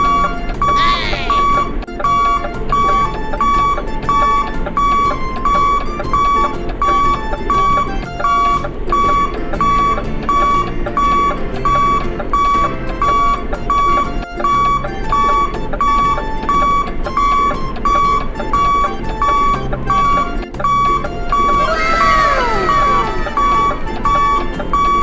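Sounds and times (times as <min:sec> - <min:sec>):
electronic beeping tune: 0:00.0 - 0:25.0.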